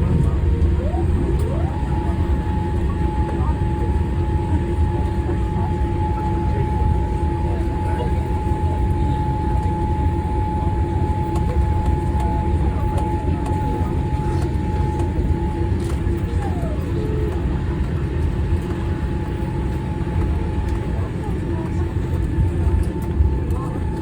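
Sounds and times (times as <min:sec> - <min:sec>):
low rumble of aircraft cabin: 0:00.0 - 0:24.0
steady whine: 0:00.0 - 0:24.0.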